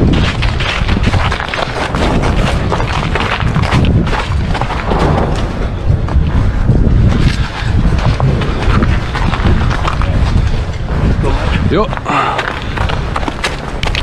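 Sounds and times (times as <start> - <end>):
footsteps on snow: 0.0 - 14.0
wind buffeting microphone: 0.0 - 14.0.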